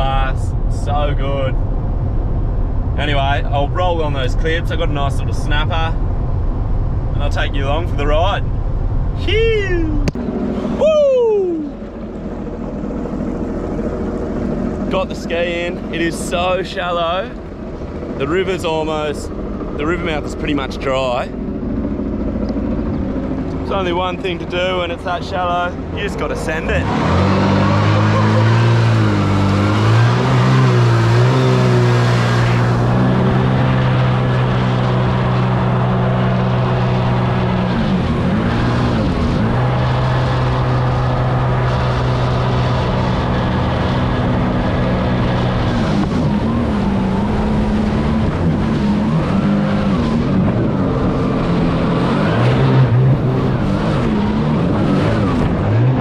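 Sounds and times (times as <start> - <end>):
wind: 0.0 - 56.0
jetski engine running: 10.0 - 10.9, 11.7 - 56.0.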